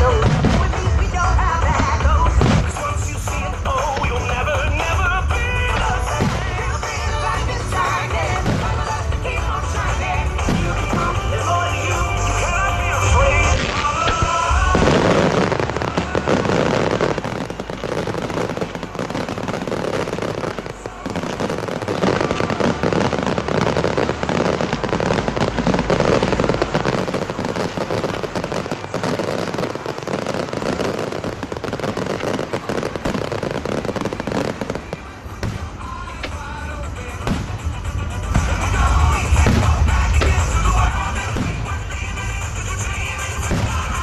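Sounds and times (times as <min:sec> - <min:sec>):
fireworks shell bursts and crackling: 0:00.0 - 0:44.0.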